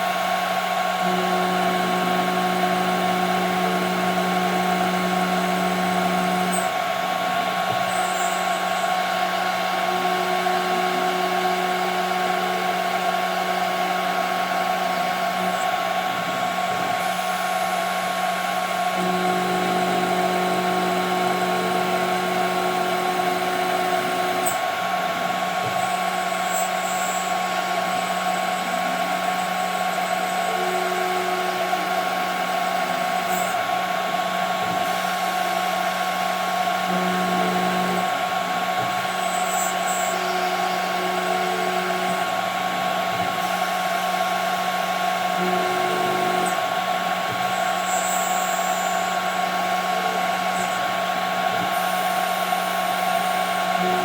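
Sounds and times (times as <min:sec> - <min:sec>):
lower motor tones: 0:00.0 - 0:54.0
router spindle high whine: 0:00.0 - 0:54.0.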